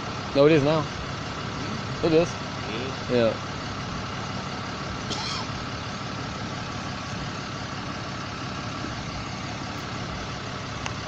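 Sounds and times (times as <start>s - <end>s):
street noise: 0.0s - 11.0s
vehicle engine idling: 0.0s - 11.0s.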